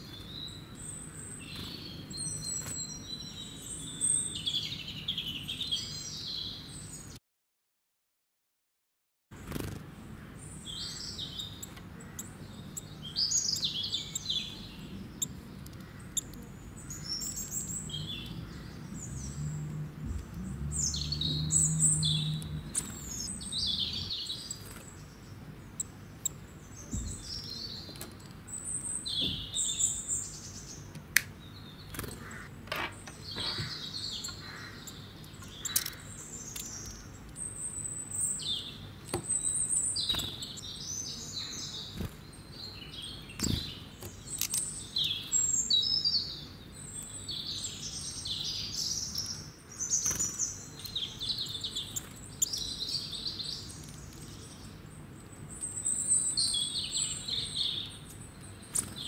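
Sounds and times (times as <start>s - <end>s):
birds chirping: 0.0s - 7.2s, 9.4s - 59.0s.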